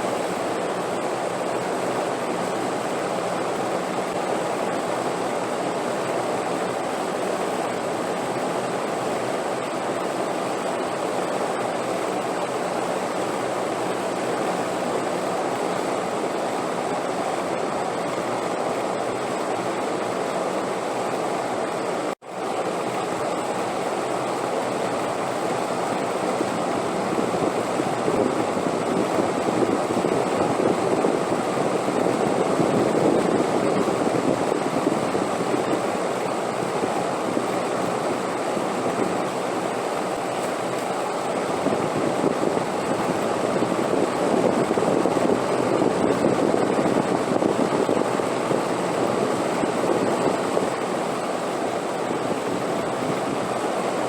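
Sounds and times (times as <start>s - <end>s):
rushing wind: 0.0s - 54.0s.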